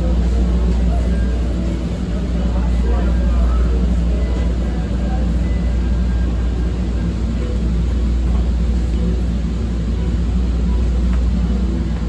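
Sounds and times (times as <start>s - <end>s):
train car low rumble: 0.0s - 12.0s.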